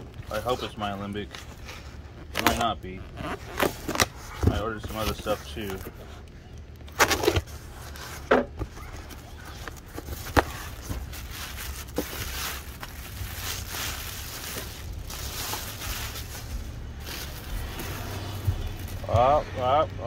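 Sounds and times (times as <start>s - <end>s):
plastic wrap rustling: 0.0s - 19.2s.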